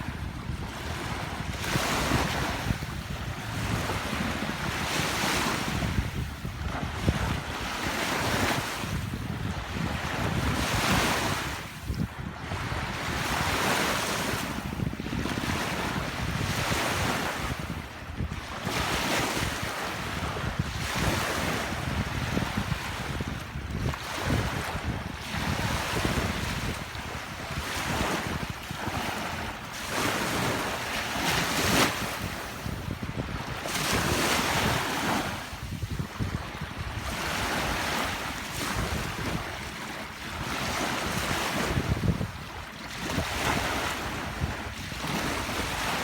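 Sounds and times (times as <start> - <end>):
sea waves washing onto beach: 0.0 - 18.0, 18.6 - 46.0
wind rumbling on microphone: 0.0 - 46.0.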